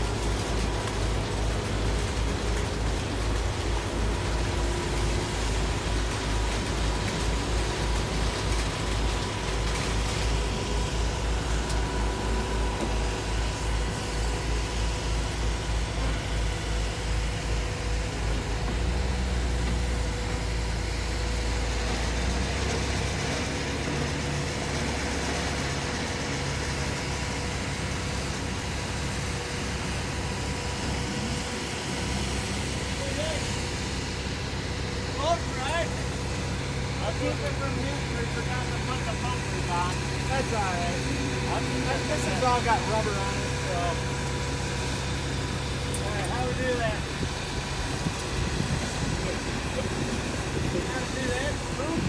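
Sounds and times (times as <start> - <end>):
boat lift mechanical drone: 0.0 - 52.0.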